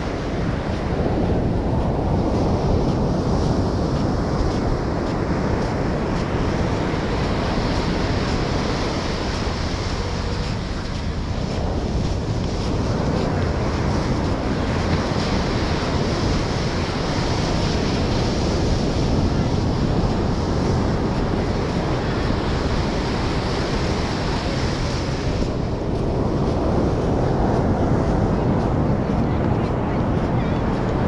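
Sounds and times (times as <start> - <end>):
ocean surf breaking: 0.0 - 31.0
wind buffeting microphone: 0.0 - 31.0.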